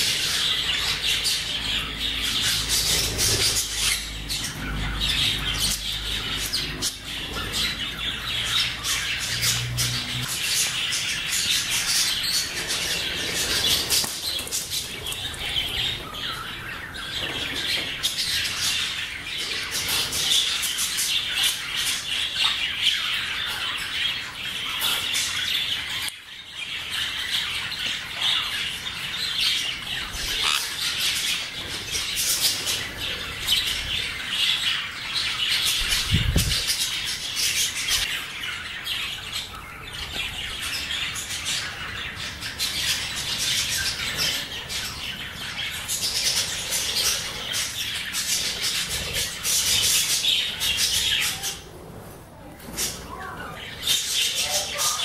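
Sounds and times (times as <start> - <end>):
budgerigars chattering and squawking: 0.0 - 52.0, 52.6 - 55.0.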